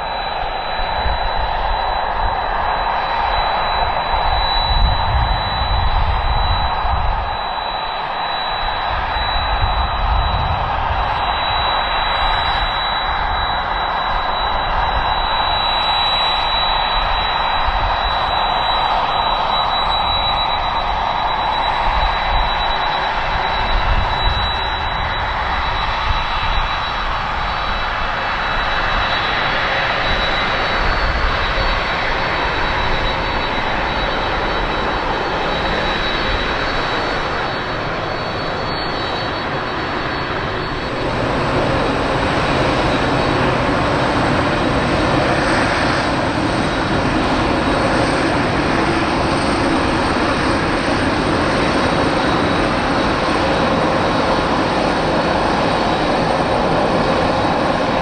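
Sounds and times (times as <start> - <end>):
thin high whine: 0.0 - 54.7
jet engines running: 0.0 - 58.0.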